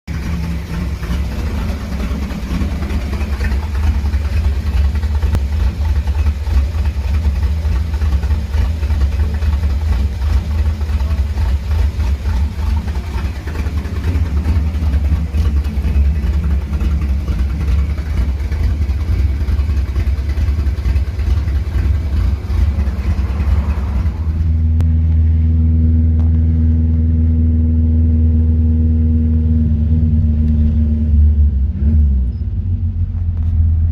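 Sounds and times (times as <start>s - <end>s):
car engine with choppy pulsing note: 0.0s - 33.9s.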